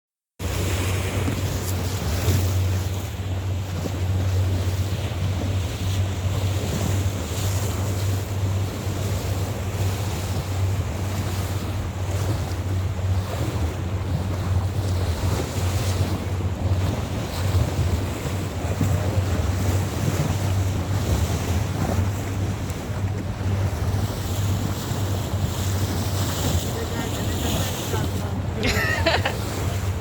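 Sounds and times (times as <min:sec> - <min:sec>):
motorboat engine drone: 0:00.4 - 0:30.0
water wash: 0:00.4 - 0:30.0
wind buffeting microphone: 0:00.4 - 0:30.0.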